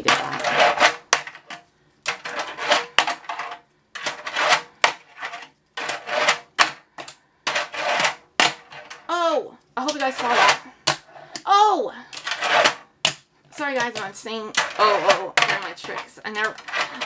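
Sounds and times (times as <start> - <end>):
small wheels rolling and scraping: 0.0 - 10.7, 12.2 - 12.9, 13.7 - 17.0.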